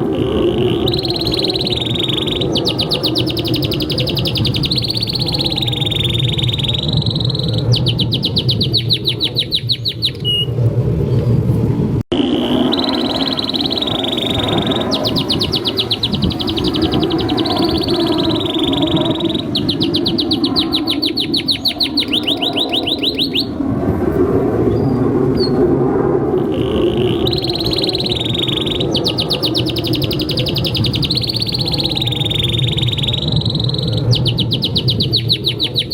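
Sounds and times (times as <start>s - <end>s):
canary singing trills and whistles: 0.0s - 10.5s, 12.2s - 23.6s, 26.4s - 35.9s.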